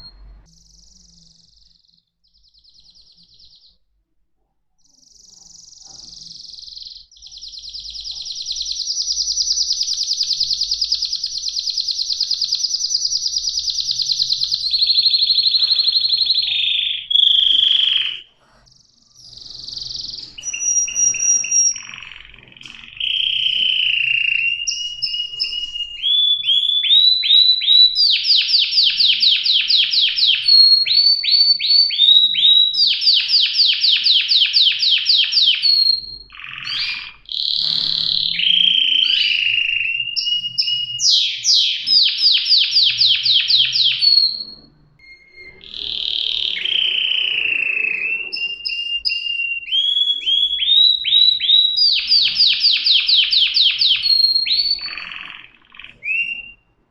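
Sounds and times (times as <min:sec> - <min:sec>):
canary singing: 0:00.0 - 0:03.8, 0:04.8 - 0:56.7.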